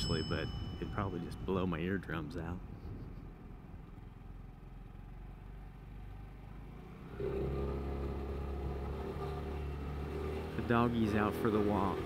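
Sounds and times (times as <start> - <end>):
scooter engine rumbling: 0.0 - 12.0.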